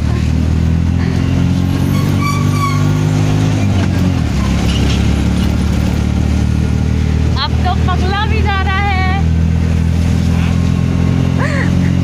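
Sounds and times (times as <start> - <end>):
auto-rickshaw engine drone: 0.0 - 12.0.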